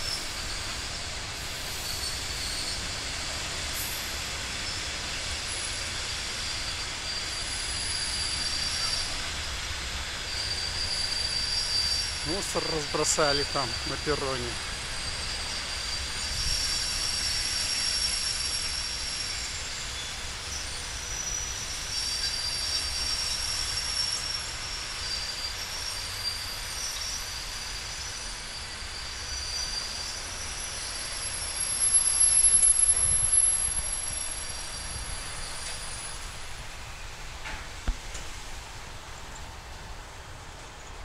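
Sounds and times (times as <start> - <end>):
train wheels squealing: 0.0 - 38.6
train rumbling: 0.0 - 41.0.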